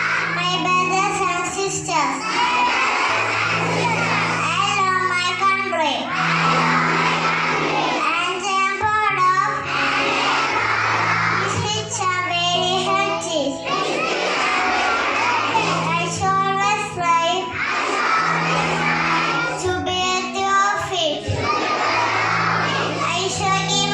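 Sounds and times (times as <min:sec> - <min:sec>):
children singing: 0:00.0 - 0:23.9
instrumental music: 0:00.0 - 0:23.9.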